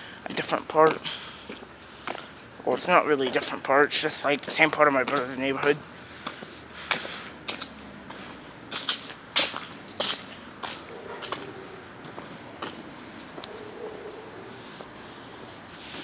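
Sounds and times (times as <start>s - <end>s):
high-pitched insect chorus: 0.0s - 16.0s
footsteps on asphalt: 0.3s - 16.0s.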